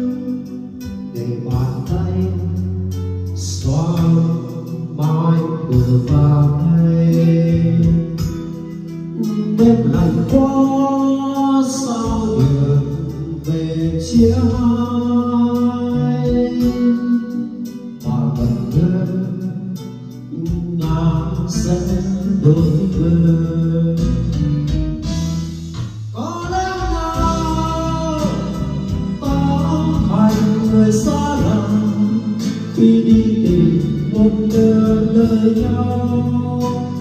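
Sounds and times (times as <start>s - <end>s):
man singing into a microphone: 0.0s - 25.1s, 26.1s - 37.0s
karaoke music: 0.0s - 37.0s.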